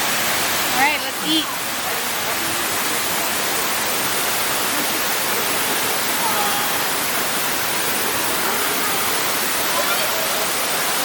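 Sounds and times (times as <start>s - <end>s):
waterfall rushing: 0.0s - 11.0s
faint voices: 0.7s - 11.0s.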